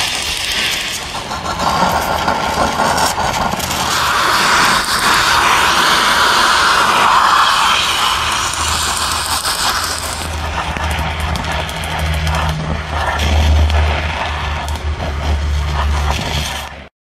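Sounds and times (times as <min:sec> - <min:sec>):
plasma torch hissing: 0:00.0 - 0:16.9.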